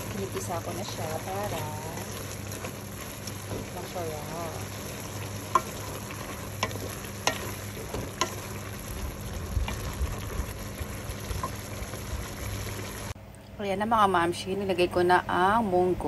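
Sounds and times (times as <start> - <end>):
food sizzling in pot: 0.0 - 13.2.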